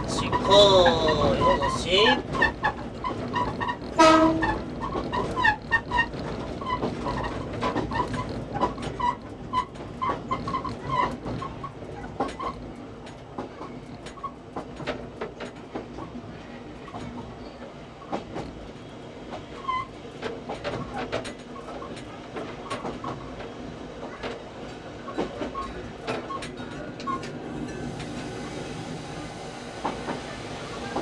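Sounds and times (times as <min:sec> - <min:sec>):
wheels clicking over rail joints: 0:00.0 - 0:16.2, 0:18.0 - 0:28.4
train running gear rumble: 0:00.0 - 0:31.0.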